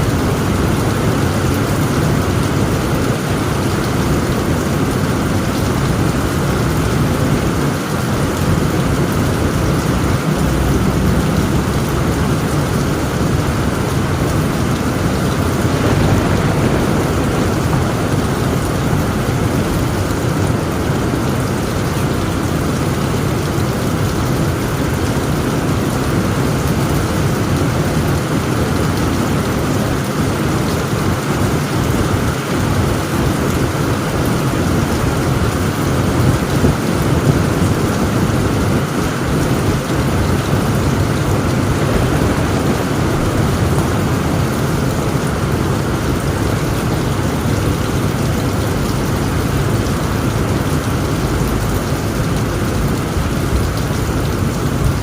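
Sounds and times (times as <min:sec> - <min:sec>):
heavy rain drumming on a tent roof: 0:00.0 - 0:55.0
low rumble of thunder: 0:00.0 - 0:55.0.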